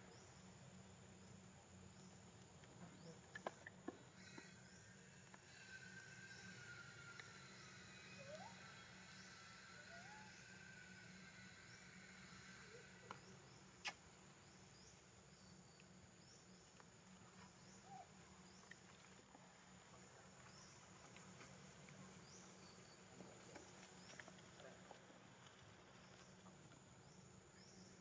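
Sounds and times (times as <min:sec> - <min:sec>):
faint outdoor ambience: 0:00.0 - 0:28.0.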